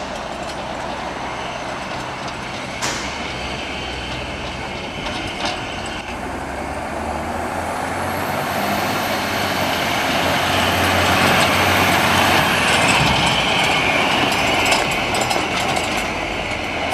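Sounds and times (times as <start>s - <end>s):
diesel truck engine running: 0.0s - 16.9s.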